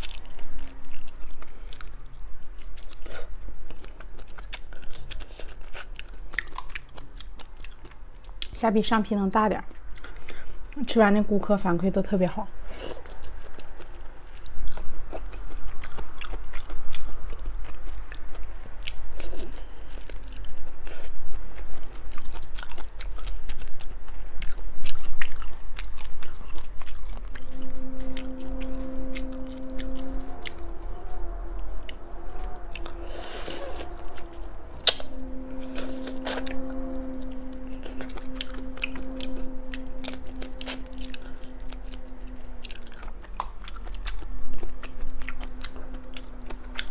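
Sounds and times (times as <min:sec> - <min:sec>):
person chewing food: 0:00.0 - 0:08.6, 0:09.7 - 0:10.8, 0:12.7 - 0:46.9
low hum: 0:00.0 - 0:46.9.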